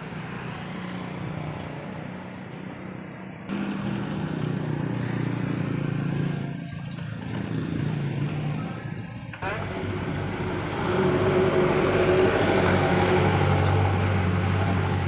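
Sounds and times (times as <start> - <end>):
road traffic engine hum: 0.0 - 15.0.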